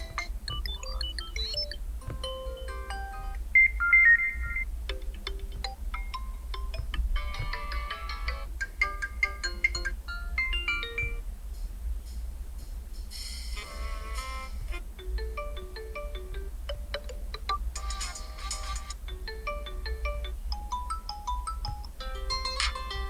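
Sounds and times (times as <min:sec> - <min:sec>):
phone ringtone chime melody: 0:00.0 - 0:04.6, 0:05.4 - 0:11.2, 0:13.9 - 0:23.0.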